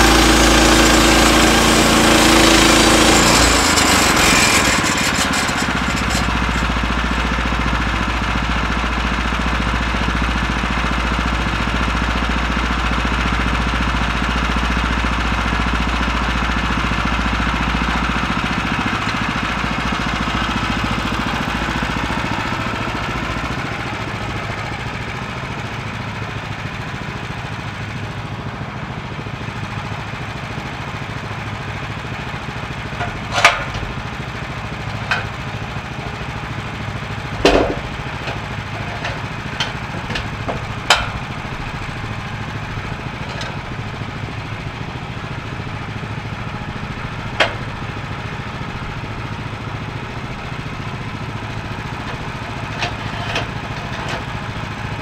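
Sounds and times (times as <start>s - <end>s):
sawmill gas engine running: 0.0s - 55.0s.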